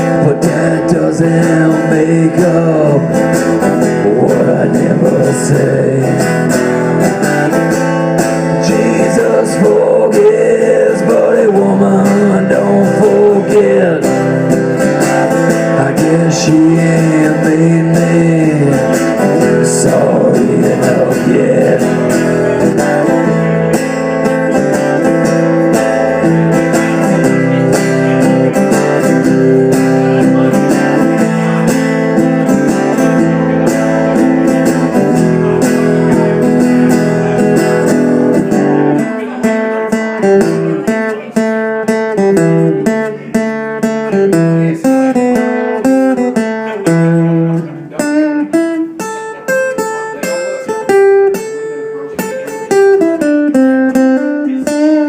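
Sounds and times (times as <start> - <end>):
picked guitar lead notes: 0.0 - 55.0
strummed guitar chords: 0.0 - 55.0.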